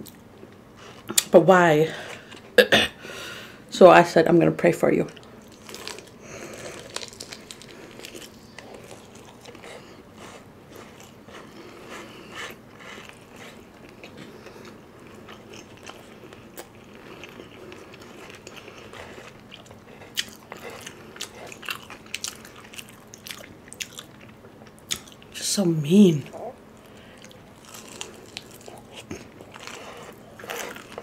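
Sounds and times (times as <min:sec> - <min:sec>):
chewing crispy fried chicken: 0:05.1 - 0:25.4, 0:26.3 - 0:31.0.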